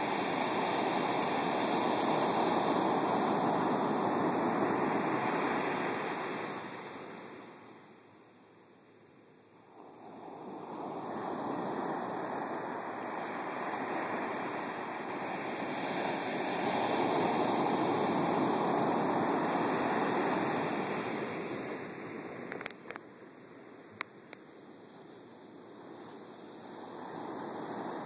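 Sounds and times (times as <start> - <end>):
waves breaking on sand beach: 0.0 - 8.0, 9.6 - 28.0.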